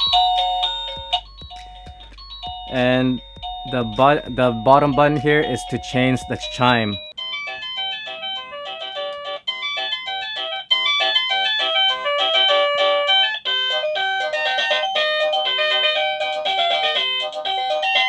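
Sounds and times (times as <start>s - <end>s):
doorbell chime melodies: 0.0s - 18.0s.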